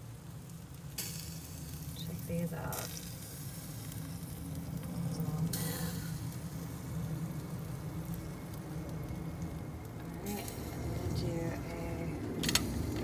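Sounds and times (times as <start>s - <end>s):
fruit sizzling on a grill: 0.0s - 13.0s
steady low rumble: 0.0s - 13.0s.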